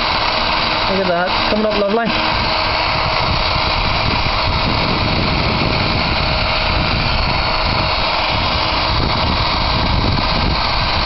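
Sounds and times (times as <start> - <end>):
drill with wire brush scratching: 0.0 - 11.0.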